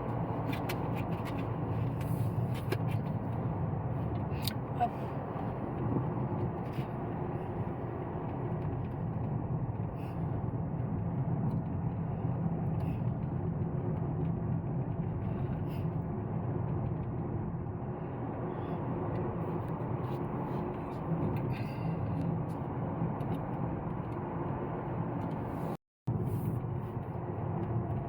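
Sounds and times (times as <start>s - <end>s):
car engine and tyre noise: 0.0s - 28.0s.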